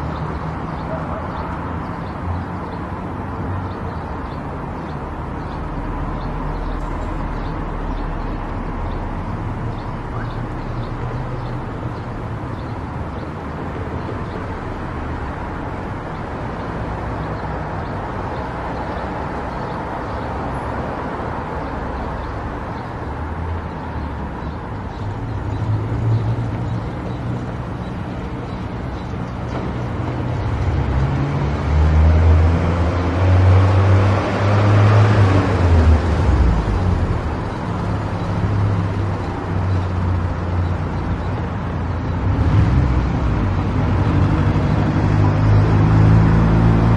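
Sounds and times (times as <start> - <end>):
road noise: 0.0 - 46.9.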